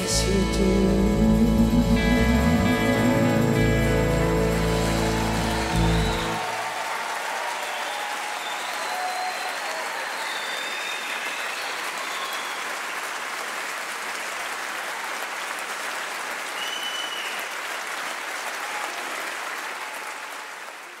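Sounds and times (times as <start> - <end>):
large audience applauding: 2.4 - 21.0.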